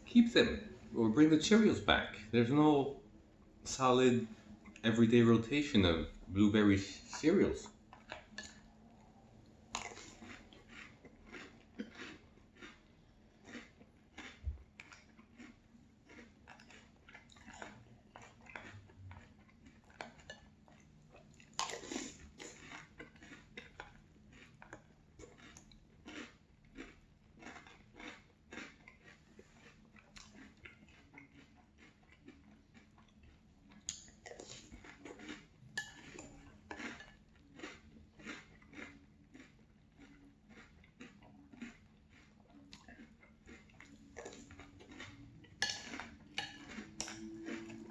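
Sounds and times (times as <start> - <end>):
crunchy chewing of cereal: 3.7 - 47.9.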